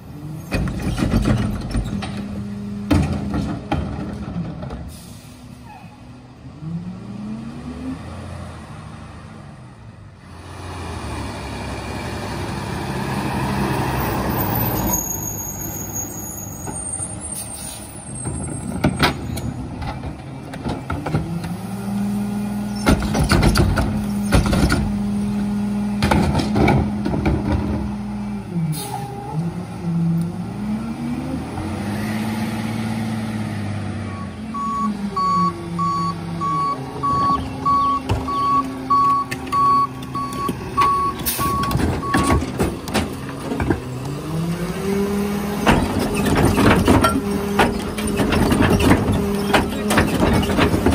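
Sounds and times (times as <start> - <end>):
diesel engine revving: 0.0 - 16.0, 19.5 - 50.9.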